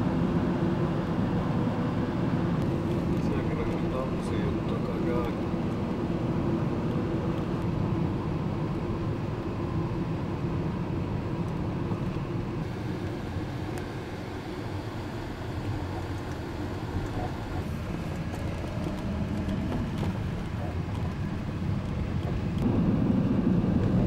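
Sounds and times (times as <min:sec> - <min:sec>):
car cabin engine and road rumble: 0:00.0 - 0:24.0.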